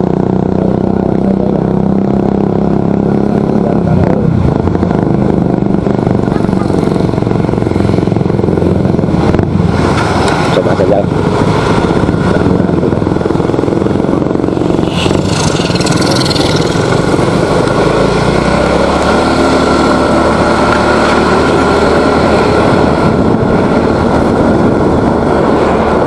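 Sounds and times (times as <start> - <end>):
motorcycle engine running: 0.0 - 26.0
steady rushing noise: 0.0 - 26.0.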